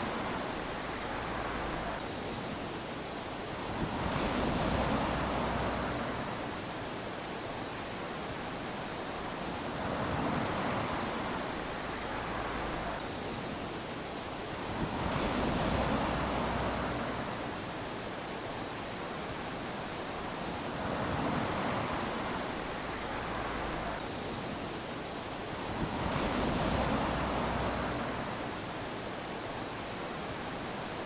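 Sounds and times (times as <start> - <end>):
small waves lapping on shore: 0.0 - 31.0.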